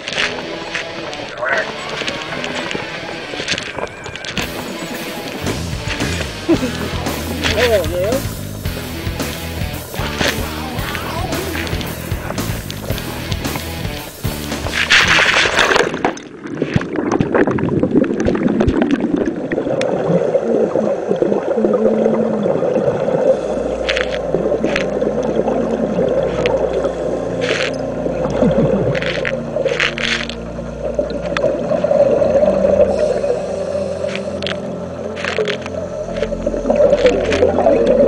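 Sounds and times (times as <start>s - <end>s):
muffled underwater rumble: 0.0s - 38.0s
scuba bubbles gurgling: 0.0s - 38.0s
water churning and splashing: 0.0s - 38.0s.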